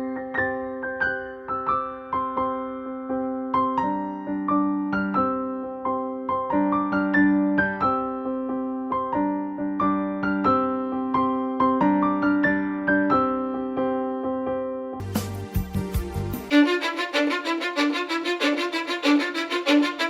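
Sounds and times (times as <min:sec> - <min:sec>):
gentle piano melody: 0:00.0 - 0:16.9.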